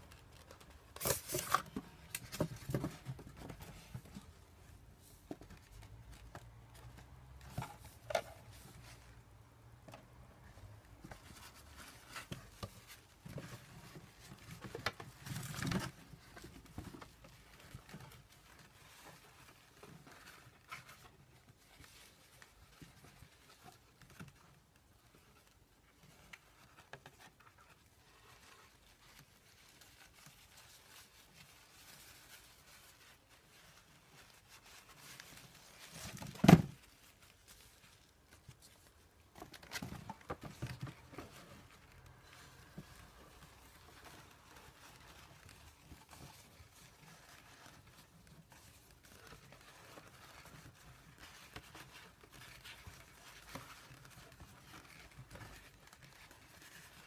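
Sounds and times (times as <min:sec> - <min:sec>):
paper and cardboard rustling: 0:00.0 - 0:57.0.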